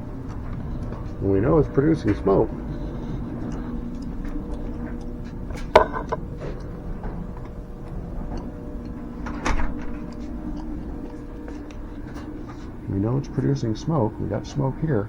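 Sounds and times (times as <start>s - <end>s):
air pump humming: 0.0s - 15.0s.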